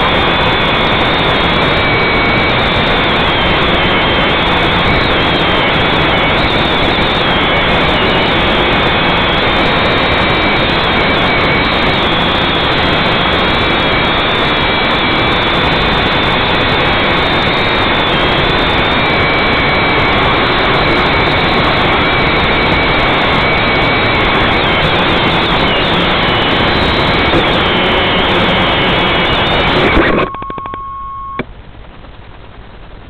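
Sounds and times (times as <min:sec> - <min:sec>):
drone propellers whirring: 0:00.0 - 0:31.4
high motor whines: 0:00.0 - 0:31.5.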